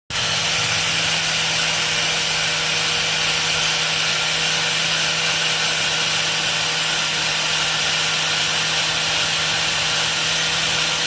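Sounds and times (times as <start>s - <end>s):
handheld power tool humming: 0.1s - 11.0s.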